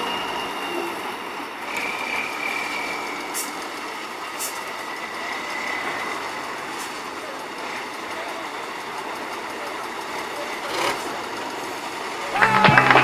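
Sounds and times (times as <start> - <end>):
truck diesel engine under load: 0.0 - 13.0
wheels churning sand: 1.6 - 13.0.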